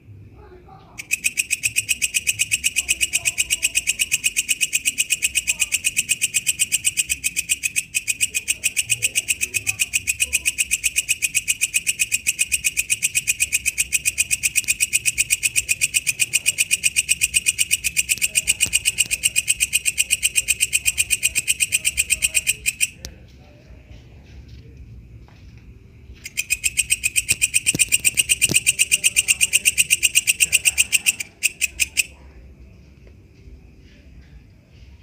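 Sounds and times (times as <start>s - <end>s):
bush cricket chirping: 0.9s - 35.0s.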